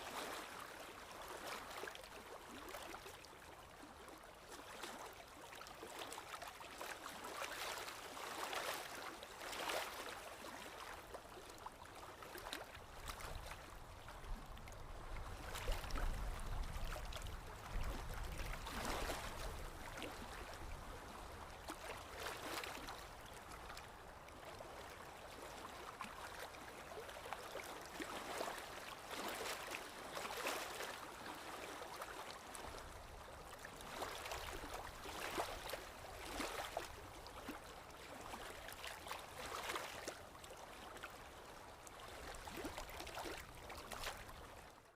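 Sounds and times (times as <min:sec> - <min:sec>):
stream gurgling and splashing: 0:00.0 - 0:44.9.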